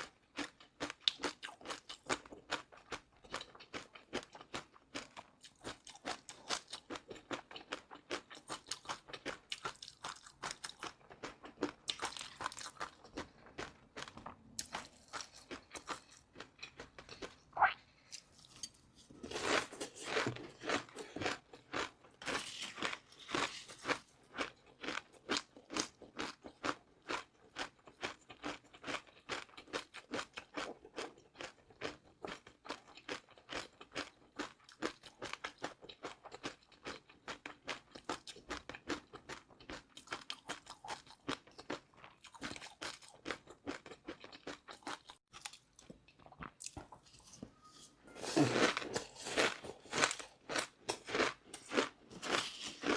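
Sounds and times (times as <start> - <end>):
crunchy food chewing: 0.0 - 52.9.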